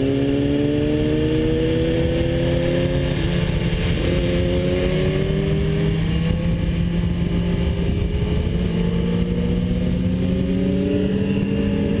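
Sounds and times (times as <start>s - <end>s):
motorcycle engine accelerating: 0.0s - 12.0s
wind noise: 0.0s - 12.0s.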